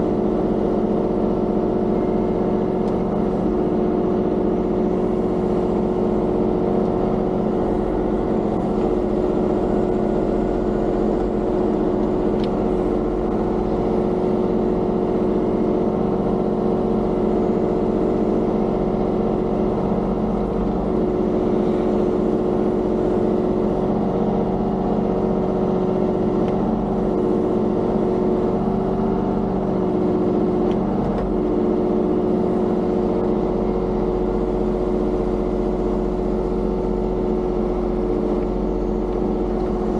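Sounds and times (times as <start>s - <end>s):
diesel digger engine running: 0.0s - 39.9s.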